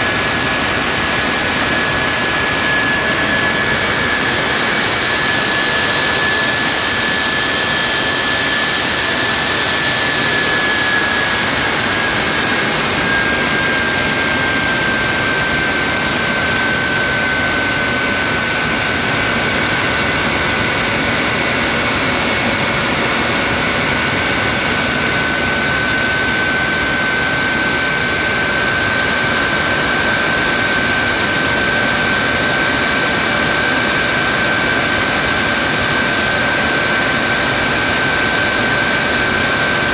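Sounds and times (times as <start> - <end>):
jet engine running with whine: 0.0 - 39.9.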